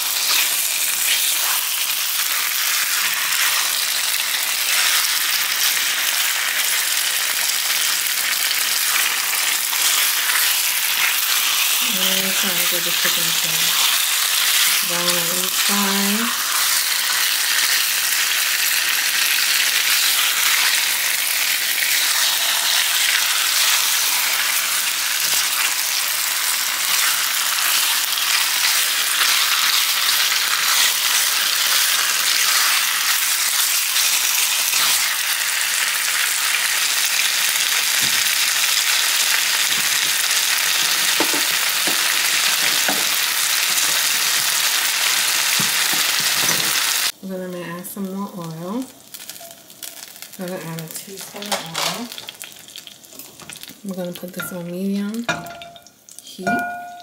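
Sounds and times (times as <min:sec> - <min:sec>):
chicken searing in hot oil: 0:00.0 - 0:54.2.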